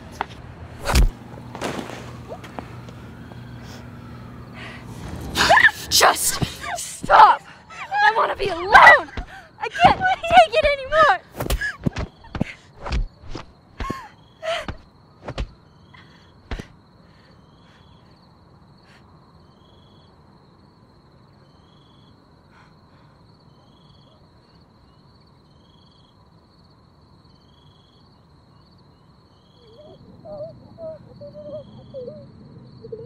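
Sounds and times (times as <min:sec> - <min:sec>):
insect-like chirping: 0:00.9 - 0:33.0.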